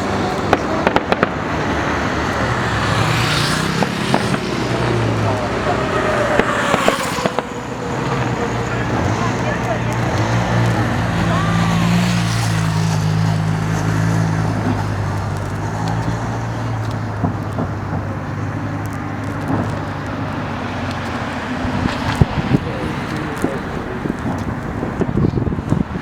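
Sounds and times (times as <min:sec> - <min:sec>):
traffic engine hum: 0:00.0 - 0:26.0.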